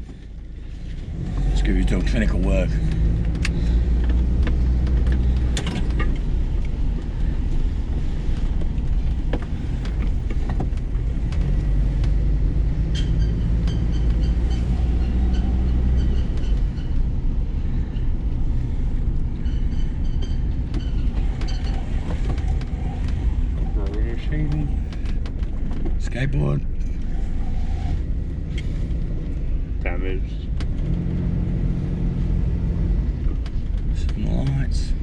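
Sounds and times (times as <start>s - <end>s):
car engine humming: 0.0s - 35.0s.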